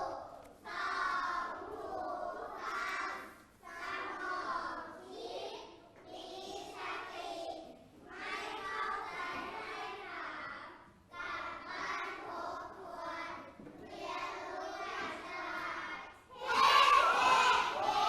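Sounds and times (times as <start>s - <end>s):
children chanting in unison: 0.0s - 18.0s.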